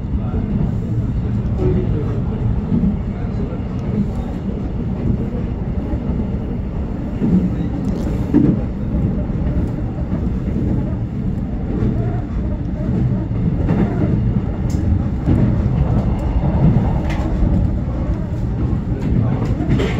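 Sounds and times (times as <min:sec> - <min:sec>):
train wheels rumbling on rail: 0:00.0 - 0:19.9.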